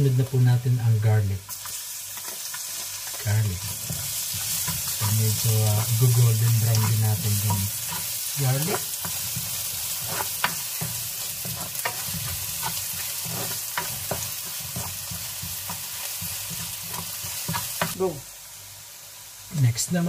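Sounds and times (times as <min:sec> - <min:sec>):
onion and garlic sizzling in oil: 0:00.0 - 0:20.0
spatula scraping and tapping pan: 0:01.5 - 0:18.0.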